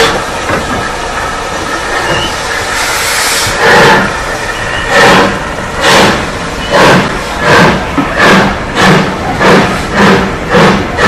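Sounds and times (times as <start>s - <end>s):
steady hiss of steam: 0.0s - 11.0s
steam locomotive exhaust chuffs: 0.0s - 11.0s.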